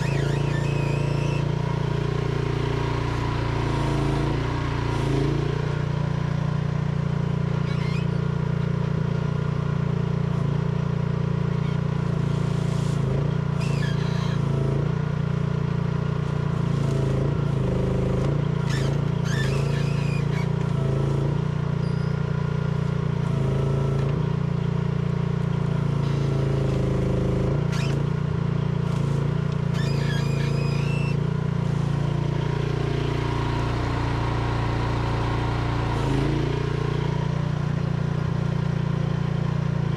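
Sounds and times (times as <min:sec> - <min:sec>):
small excavator engine running: 0:00.0 - 0:39.9.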